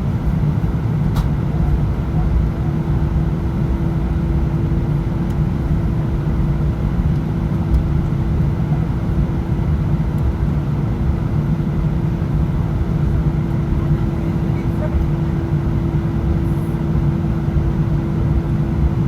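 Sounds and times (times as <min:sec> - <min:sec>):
jet engines in cabin: 0:00.0 - 0:19.0.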